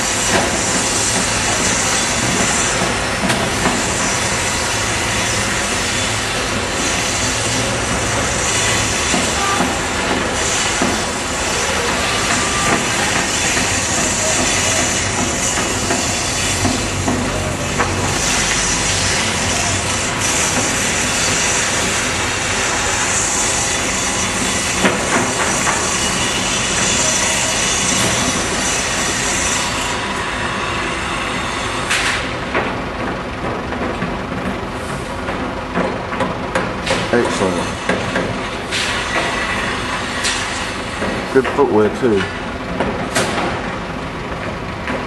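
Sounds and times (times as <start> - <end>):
table saw cutting wood: 0.0 - 32.7, 36.8 - 42.3.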